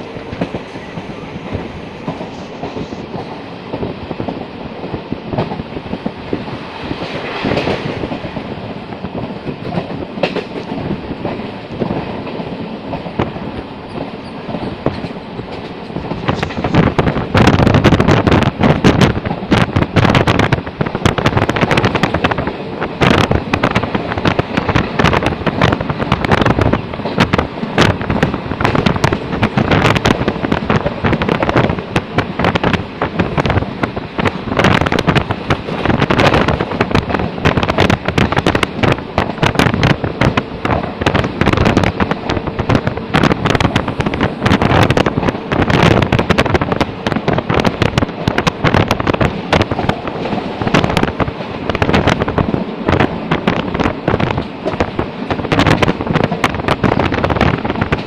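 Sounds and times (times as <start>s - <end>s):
train carriage rattling: 0.0s - 58.0s
wind buffeting microphone: 0.0s - 58.0s.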